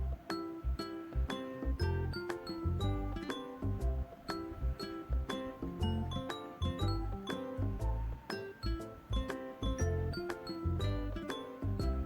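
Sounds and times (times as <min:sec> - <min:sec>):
background music with steady beat: 0:00.0 - 0:12.0
bright chiming notes: 0:00.0 - 0:12.0.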